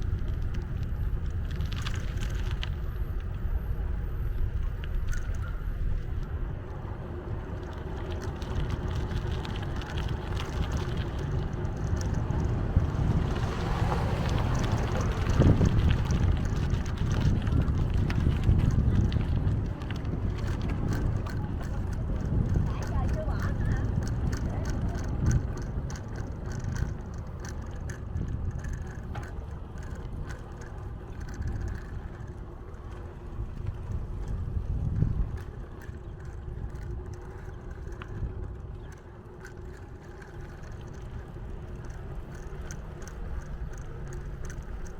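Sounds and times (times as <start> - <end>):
faint ticks and rattles: 0.0 - 44.9
low rumble of bicycle riding: 0.0 - 44.9
wind buffeting microphone: 0.0 - 44.9.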